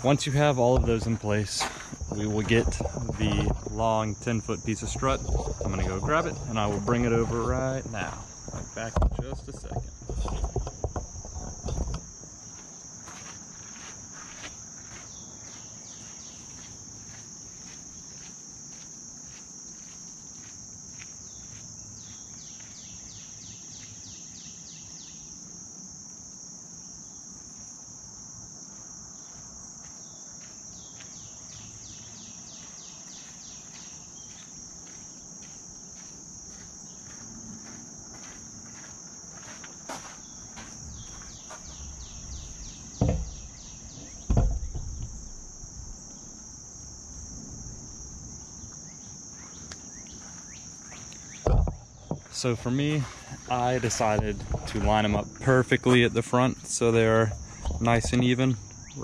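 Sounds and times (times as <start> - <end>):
fast pulsing insect calls: 0.0 - 59.0
insect trill: 0.0 - 59.0.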